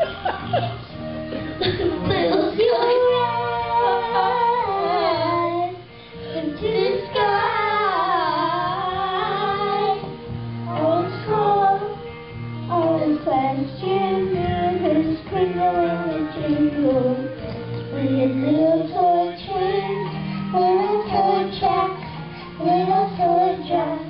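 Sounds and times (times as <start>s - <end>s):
girls singing a duet: 1.3s - 24.0s.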